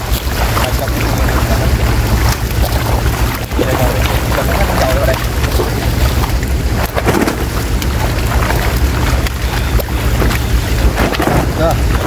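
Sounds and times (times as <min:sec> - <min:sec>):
fish thrashing in shallow water: 0:00.0 - 0:12.0.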